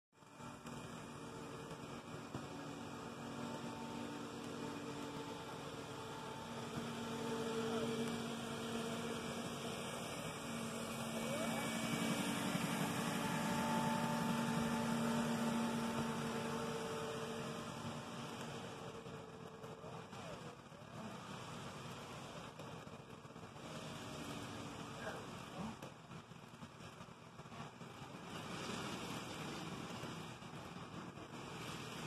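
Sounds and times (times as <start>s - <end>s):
electric motor hum: 0.2s - 27.0s
wheels rattling on rails: 0.2s - 32.0s.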